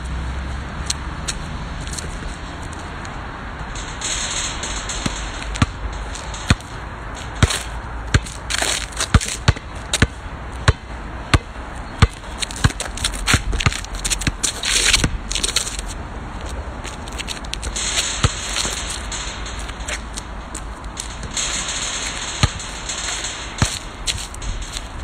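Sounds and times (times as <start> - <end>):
basketball bouncing on asphalt: 0.0 - 25.0.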